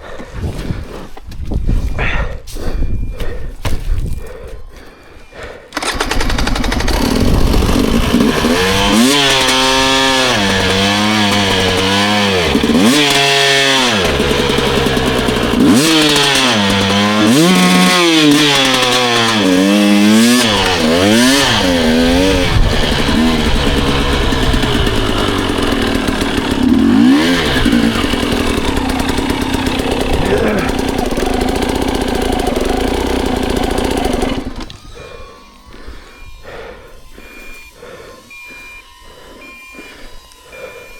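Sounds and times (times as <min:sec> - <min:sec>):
dirt bike engine revving: 0:05.7 - 0:40.9.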